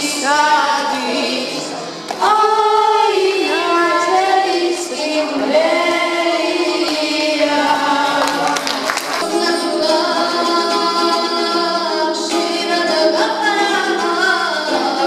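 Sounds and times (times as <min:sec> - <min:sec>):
acoustic guitar: 0:00.0 - 0:15.0
children singing into microphones: 0:00.0 - 0:15.0.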